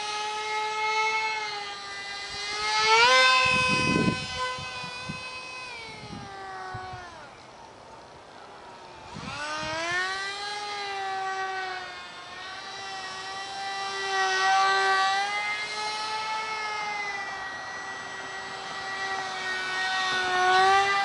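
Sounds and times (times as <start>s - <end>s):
small electric motor whining: 0.0s - 21.0s.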